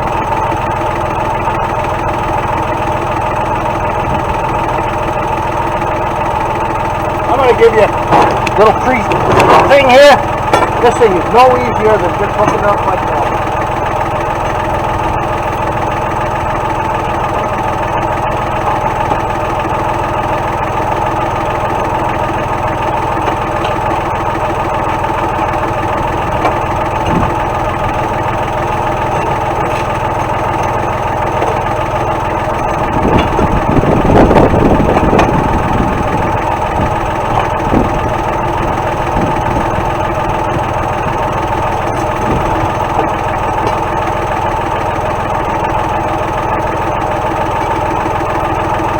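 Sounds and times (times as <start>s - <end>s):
tractor engine idling: 0.0s - 48.9s.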